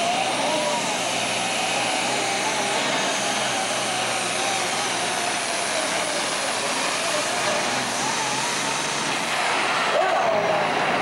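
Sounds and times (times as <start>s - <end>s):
diesel tractor engine at full throttle: 0.0s - 11.0s.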